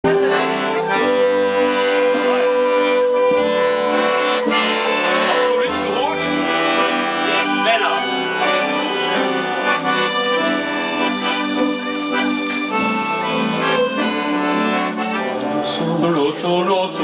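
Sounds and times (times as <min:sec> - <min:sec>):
piano accordion playing a tune: 0:00.0 - 0:17.0.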